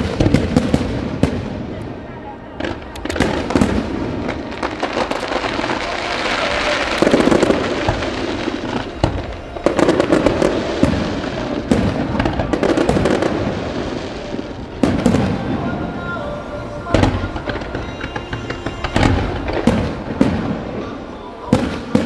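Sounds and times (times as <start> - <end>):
fireworks bangs and pops: 0.0 - 22.0
fireworks crackle: 0.0 - 22.0.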